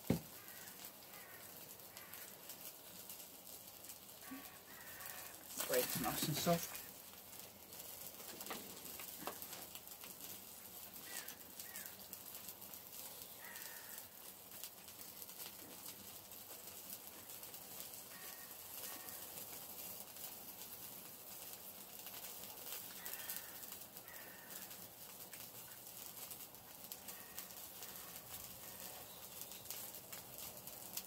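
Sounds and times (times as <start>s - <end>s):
faint outdoor ambience: 0.0s - 31.0s.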